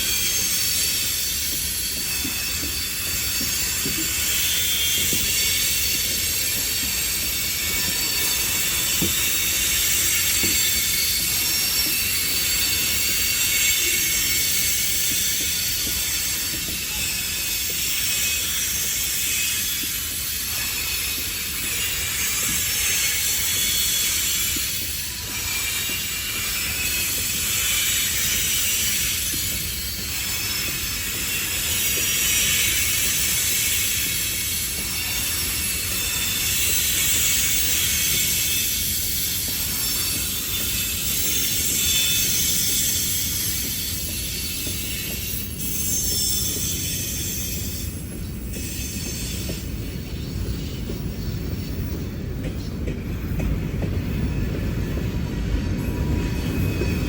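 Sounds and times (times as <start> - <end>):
train wheels rattling on rails: 0.0 - 57.0.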